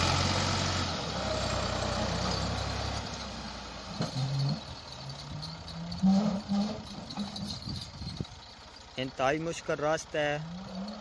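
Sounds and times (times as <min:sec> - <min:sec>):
tractor diesel engine labouring: 0:00.0 - 0:11.0.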